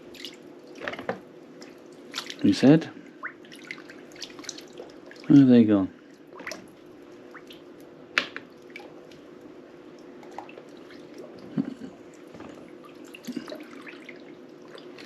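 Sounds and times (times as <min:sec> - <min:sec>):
water drips and splashes: 0:00.0 - 0:07.9, 0:08.5 - 0:15.0
faint steady hum: 0:00.0 - 0:15.0.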